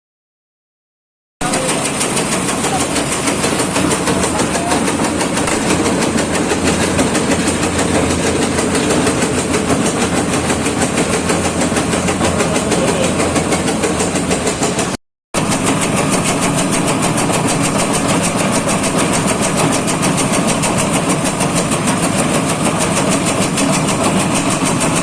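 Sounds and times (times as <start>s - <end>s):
machine drive drone: 1.4s - 25.0s
shredding machine chopping: 1.4s - 25.0s.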